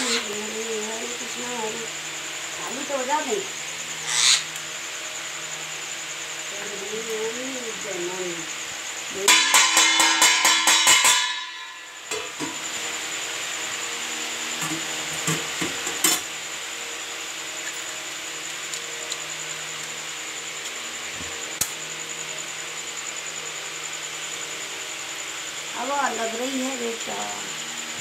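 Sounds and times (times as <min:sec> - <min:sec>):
electric fan humming: 0:00.0 - 0:28.0.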